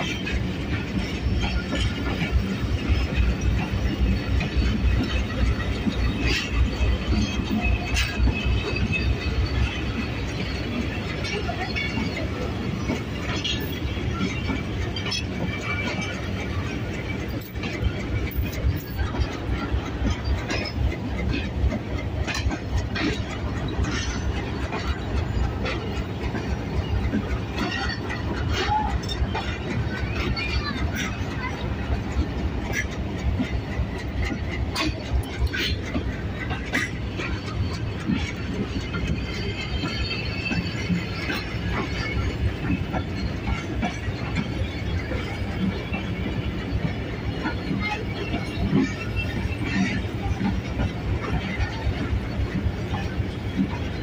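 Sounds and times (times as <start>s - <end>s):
train coaches rumbling: 0.0s - 54.0s
wheels clacking on rail joints: 0.0s - 54.0s.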